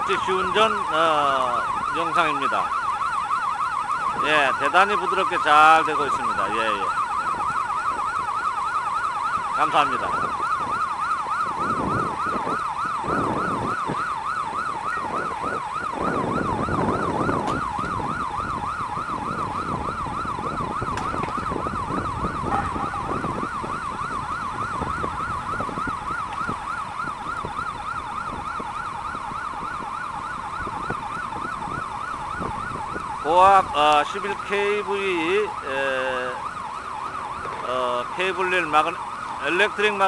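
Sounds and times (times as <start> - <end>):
warbling warning siren: 0.0 - 40.0.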